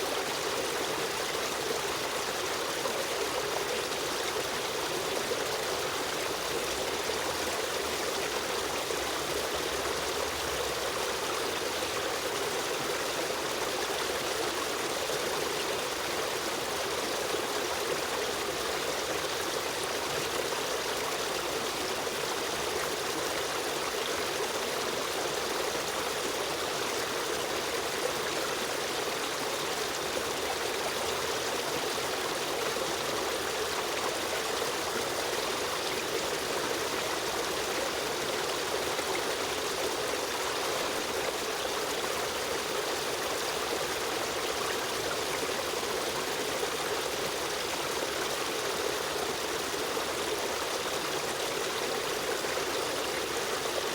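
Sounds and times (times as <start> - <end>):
river stream running: 0.0 - 53.9.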